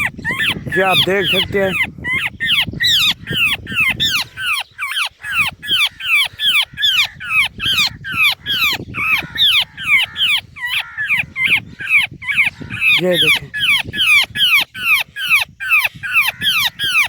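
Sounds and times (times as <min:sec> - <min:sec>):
bird distress calls: 0:00.0 - 0:17.0.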